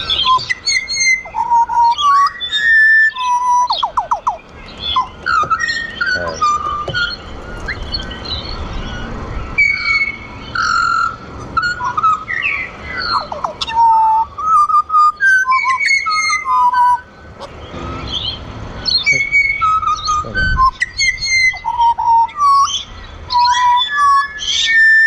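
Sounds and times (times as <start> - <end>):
birds singing fluted whistles: 0.0 - 25.0.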